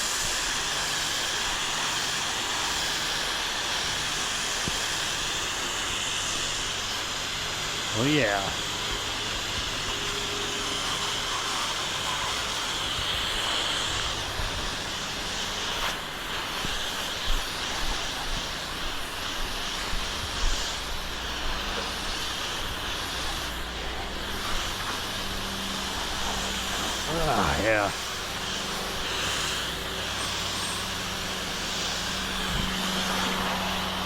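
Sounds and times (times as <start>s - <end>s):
pressure washer spraying water: 0.0s - 34.0s.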